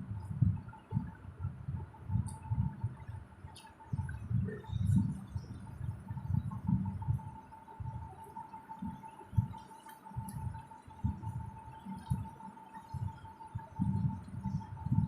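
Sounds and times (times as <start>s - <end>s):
thin high-pitched hum: 0.0s - 15.0s.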